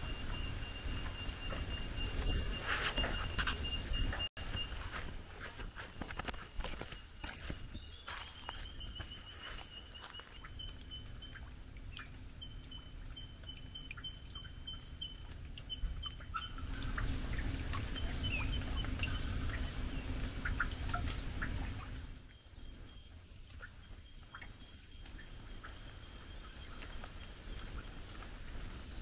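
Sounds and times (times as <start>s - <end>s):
bird high pips and chirps: 0.1s - 29.0s.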